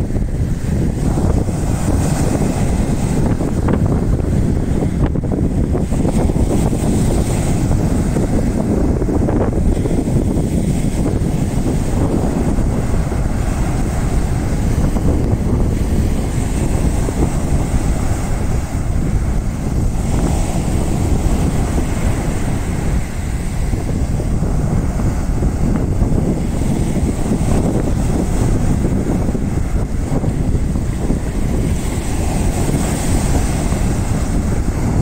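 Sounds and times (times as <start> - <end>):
waves breaking on beach: 0.0 - 35.0
wind buffeting microphone: 0.0 - 35.0.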